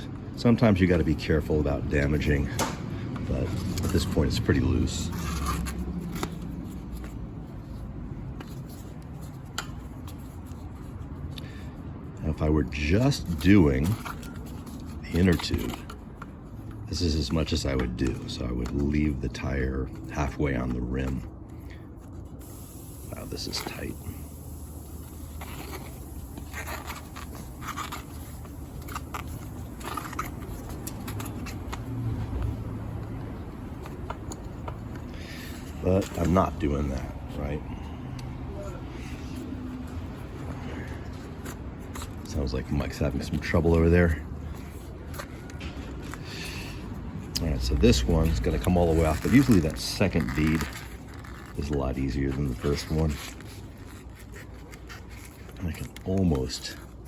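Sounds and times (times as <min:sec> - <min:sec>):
steady low hum: 0:00.0 - 0:56.0
tire lever scraping a rim: 0:00.4 - 0:11.3, 0:12.2 - 0:37.7, 0:39.2 - 0:56.9.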